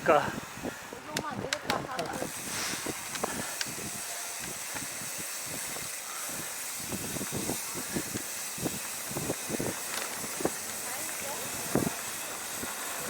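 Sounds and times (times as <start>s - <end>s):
wind hiss on microphone: 0.0s - 13.0s.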